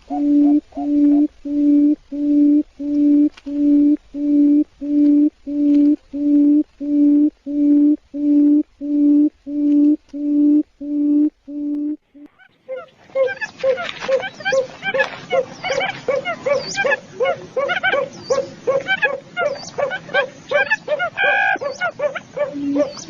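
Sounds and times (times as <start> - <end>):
quail hooting call: 0.0 - 23.0.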